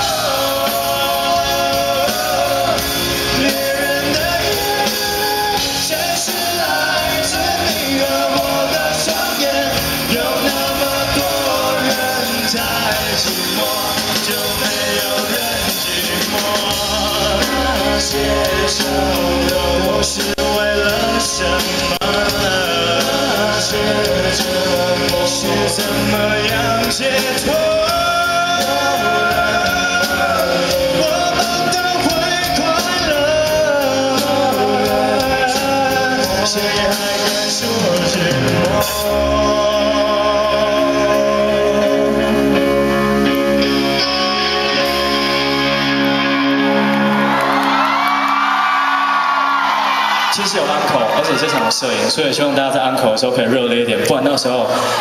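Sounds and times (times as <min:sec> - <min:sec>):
man singing into a microphone: 0:00.0 - 0:44.2
live band playing: 0:00.0 - 0:55.0.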